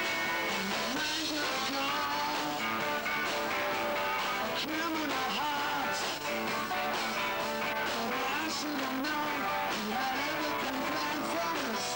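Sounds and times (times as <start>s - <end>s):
person singing: 0.0s - 3.0s, 4.4s - 6.8s, 7.6s - 11.9s
drums and cymbals: 0.0s - 11.9s
guitar: 0.0s - 11.9s.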